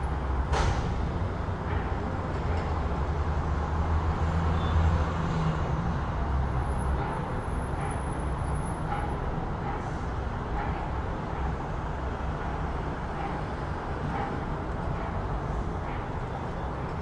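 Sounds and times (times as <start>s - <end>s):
background traffic hum: 0.0s - 17.0s.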